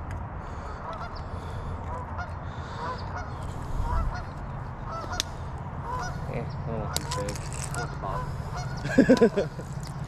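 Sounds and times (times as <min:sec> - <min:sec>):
steady low rumble: 0:00.0 - 0:10.0
geese honking: 0:00.5 - 0:09.6.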